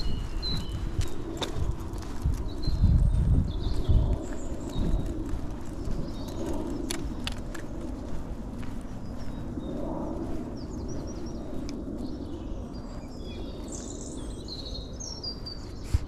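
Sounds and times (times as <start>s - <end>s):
low outdoor background noise: 0.0s - 16.0s
small birds chirping: 0.0s - 16.0s.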